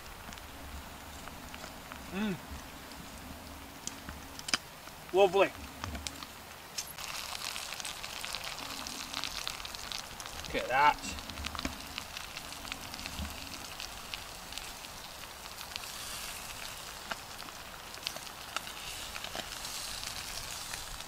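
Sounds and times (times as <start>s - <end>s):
light crackles and clicks: 0.0s - 21.0s
stew sizzling in a pot: 0.0s - 21.0s.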